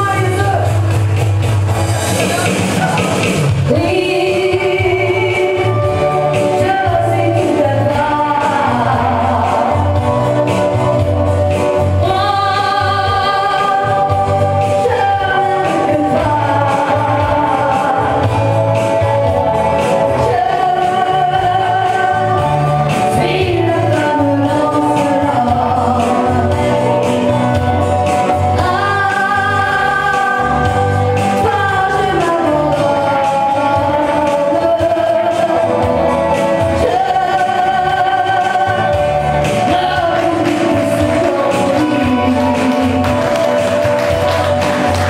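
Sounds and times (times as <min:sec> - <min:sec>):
woman singing a country song: 0:00.0 - 0:00.7, 0:03.7 - 0:43.9
musical accompaniment with bass beat: 0:00.0 - 0:45.0.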